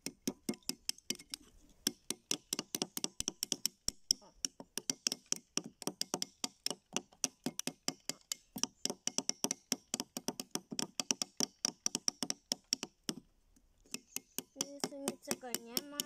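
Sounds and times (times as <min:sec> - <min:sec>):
hammers tapping metal chisels: 0:00.0 - 0:13.2, 0:13.9 - 0:16.0.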